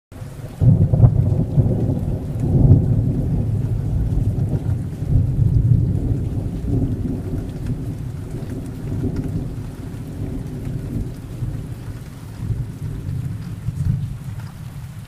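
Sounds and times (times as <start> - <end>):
heavy rain pouring: 0.1 - 15.0
rolling thunder: 0.4 - 15.0.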